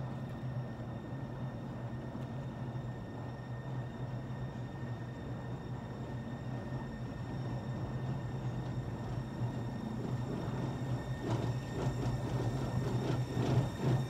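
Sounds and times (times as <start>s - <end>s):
rhythmic train clatter: 0.0s - 14.0s
train running with low hum: 0.0s - 14.0s.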